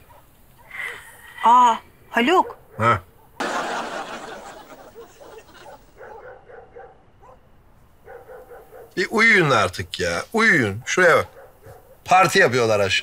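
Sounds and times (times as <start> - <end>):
distant dogs barking: 0.0 - 0.8, 2.2 - 9.6, 10.4 - 12.6.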